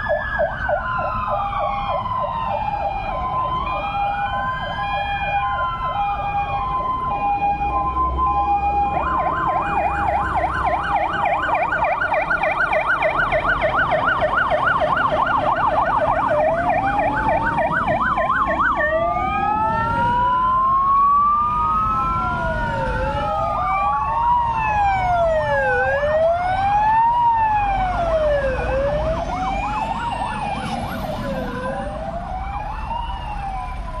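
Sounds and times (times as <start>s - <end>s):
fire engine sirens wailing: 0.0s - 34.0s
truck engines rumbling: 0.0s - 34.0s.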